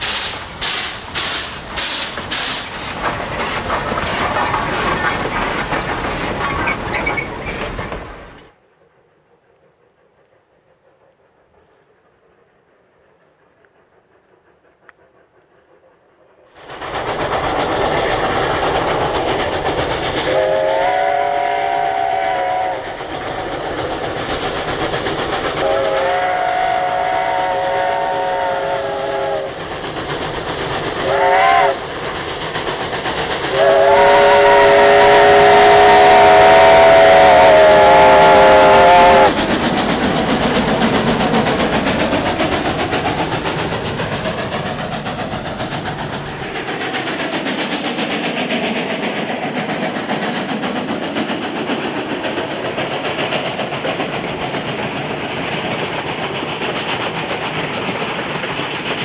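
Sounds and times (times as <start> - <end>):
coaches rolling on rails: 0.0 - 8.6, 9.6 - 59.0
steam hissing: 0.0 - 8.6, 9.6 - 59.0.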